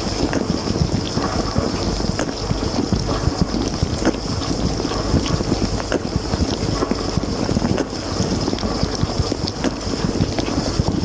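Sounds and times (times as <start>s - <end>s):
drops ticking: 0.0s - 11.0s.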